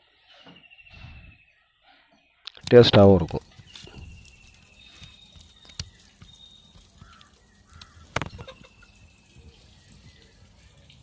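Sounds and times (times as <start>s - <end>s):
distant birds calling: 0.0s - 11.0s.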